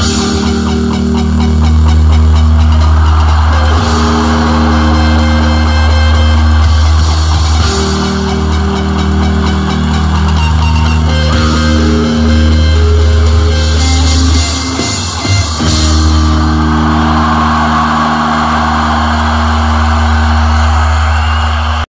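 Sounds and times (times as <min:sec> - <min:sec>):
rock music with electric guitar: 0:00.0 - 0:21.8.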